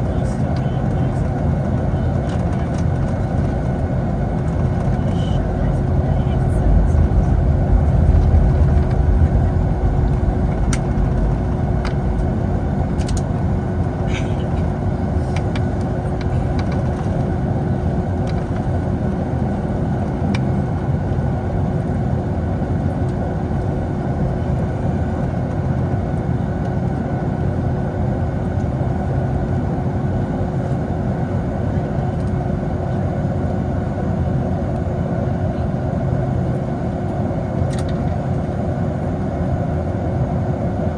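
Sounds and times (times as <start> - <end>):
aircraft cabin engine drone: 0.0 - 40.9
constant hum: 0.0 - 40.9.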